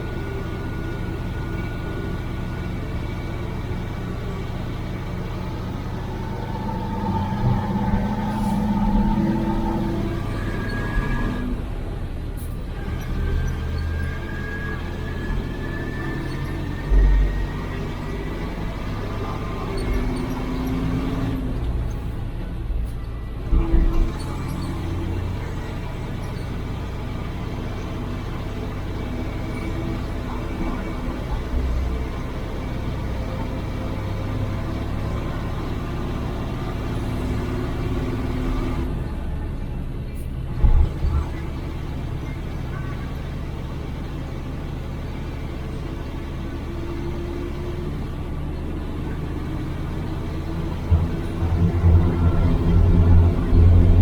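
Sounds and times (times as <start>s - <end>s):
truck diesel engine droning: 0.0s - 54.0s.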